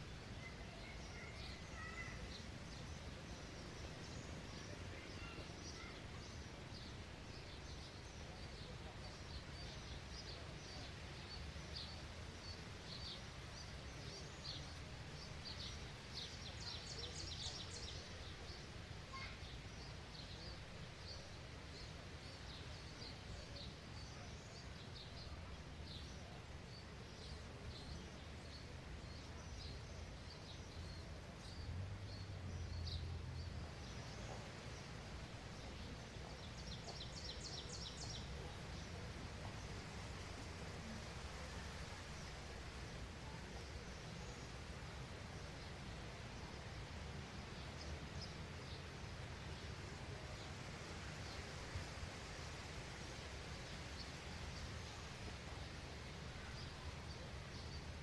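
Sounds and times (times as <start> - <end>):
low outdoor rumble: 0.0 - 58.0
songbirds chirping: 0.0 - 58.0.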